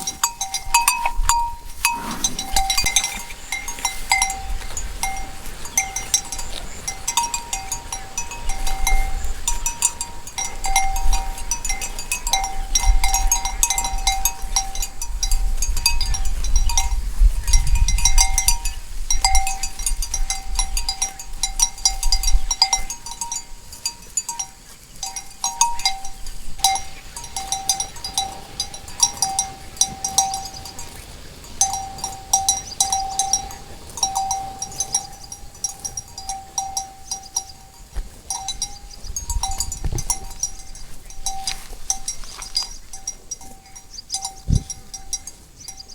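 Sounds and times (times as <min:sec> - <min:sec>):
cowbells clanking: 0:00.0 - 0:45.9.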